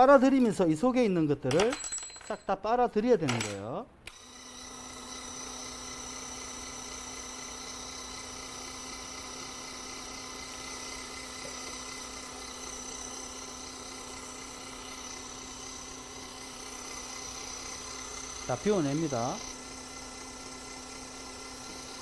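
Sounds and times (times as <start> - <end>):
electric suction pump whining: 4.1 - 22.0.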